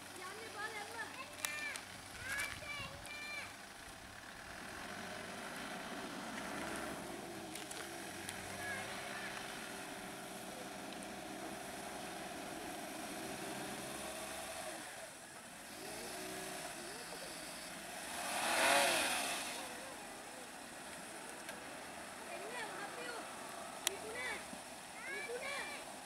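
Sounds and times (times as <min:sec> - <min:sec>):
vehicle engines idling: 0:00.0 - 0:26.0
vehicle driving past: 0:04.3 - 0:26.0.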